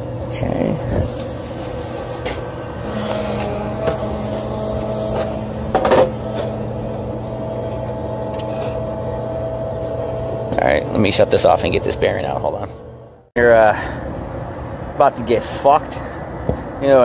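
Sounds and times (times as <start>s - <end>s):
hvac mechanical hum: 0.0s - 17.0s.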